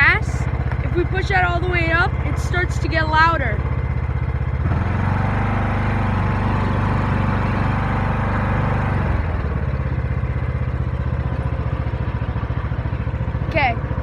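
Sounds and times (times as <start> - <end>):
riding lawnmower engine: 0.0 - 14.0.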